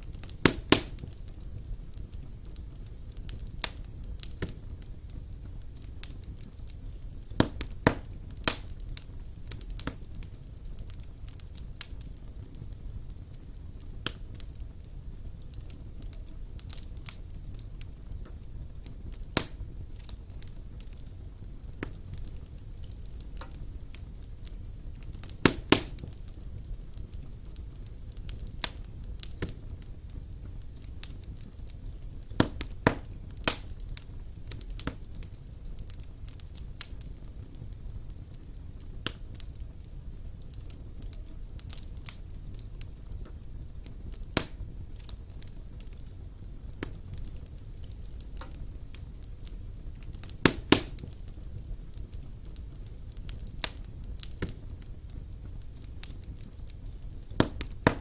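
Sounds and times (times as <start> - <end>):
fire flames rumbling: 0.0 - 58.0
logs crackling and popping: 0.0 - 58.0.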